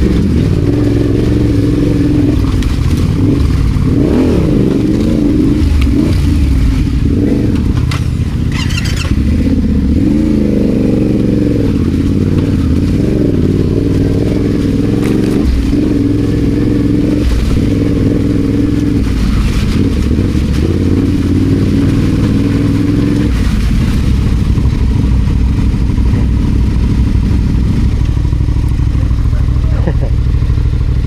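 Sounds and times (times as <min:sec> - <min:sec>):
clatter: 0:00.0 - 0:31.0
motorcycle engine revving: 0:00.0 - 0:31.0.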